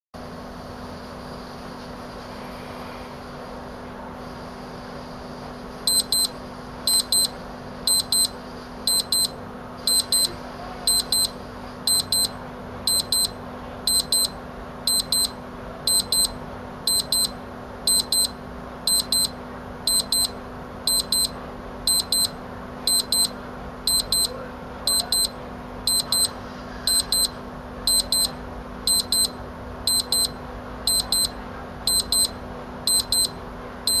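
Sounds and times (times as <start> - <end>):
steady low hum: 0.2 - 34.0
alarm clock double beeps: 5.9 - 34.0.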